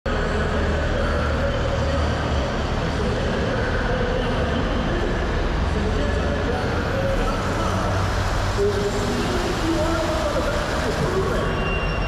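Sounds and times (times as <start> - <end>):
tractor diesel engine idling: 0.1 - 11.7.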